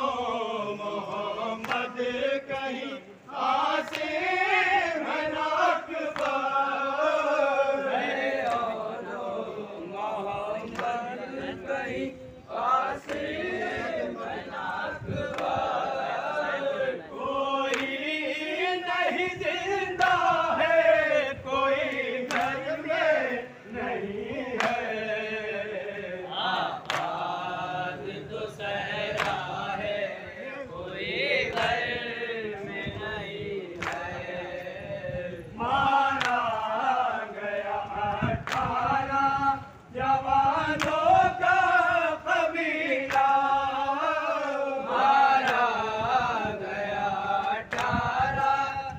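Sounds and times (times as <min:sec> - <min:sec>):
men chanting a mourning lament: 0:00.0 - 0:48.9.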